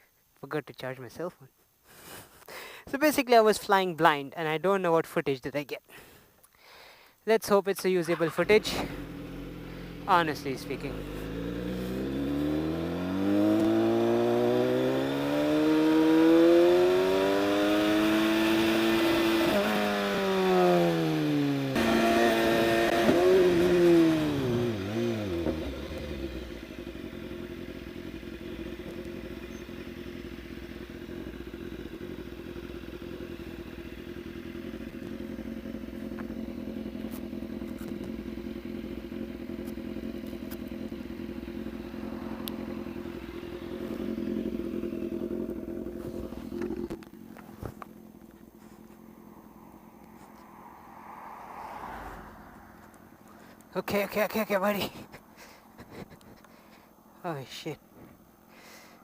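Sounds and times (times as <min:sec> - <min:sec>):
motorcycle engine revving: 0:08.1 - 0:56.6.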